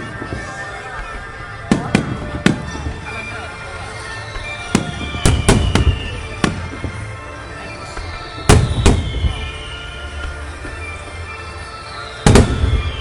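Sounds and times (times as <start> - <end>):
fireworks bangs: 0.0 - 7.2, 7.8 - 10.9, 12.1 - 13.0
fireworks falling whistles: 0.0 - 13.0.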